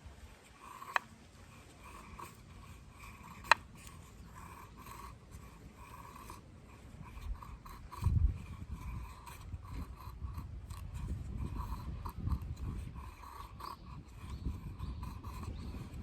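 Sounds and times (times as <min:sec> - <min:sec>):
blade scraping wood: 0:00.3 - 0:16.0.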